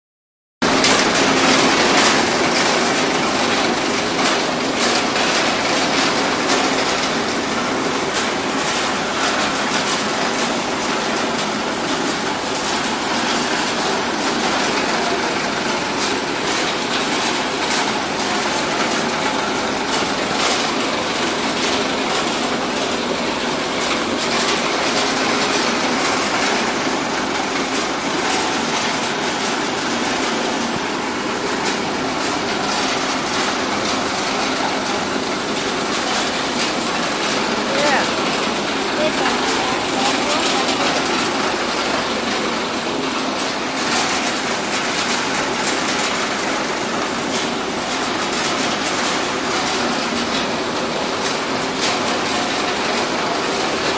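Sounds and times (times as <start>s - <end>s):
machines rattling: 0.6s - 53.9s.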